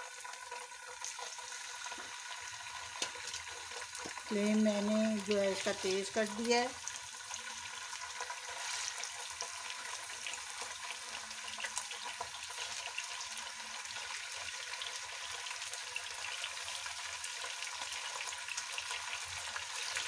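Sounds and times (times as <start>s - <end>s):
chicken and onions sizzling in ghee: 0.0s - 20.0s
crackles and pops of frying: 0.0s - 20.0s.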